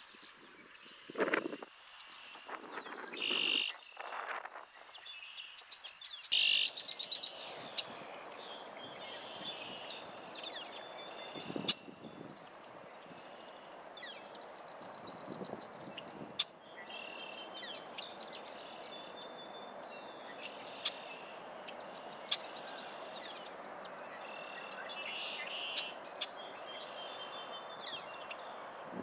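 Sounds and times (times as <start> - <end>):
background hiss: 0.0 - 29.0
small birds chirping: 0.0 - 29.0.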